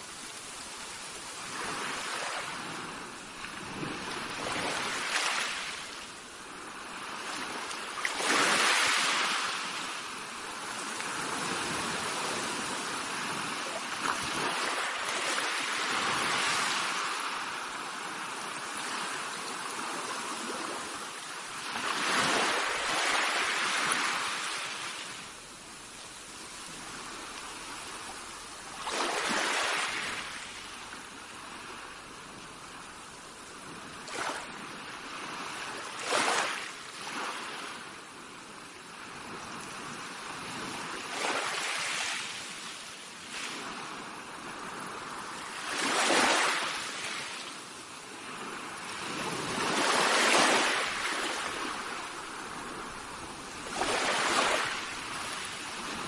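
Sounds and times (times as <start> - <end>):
waves washing up pebbly shore: 0.0 - 38.0, 39.0 - 56.0
steady hiss of water: 0.0 - 56.0.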